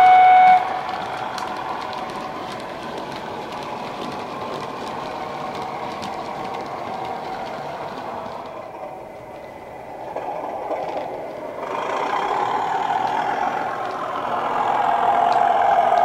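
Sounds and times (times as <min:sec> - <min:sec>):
model train diesel engine sound: 0:00.0 - 0:16.0
model wagon wheels clicking: 0:00.0 - 0:16.0.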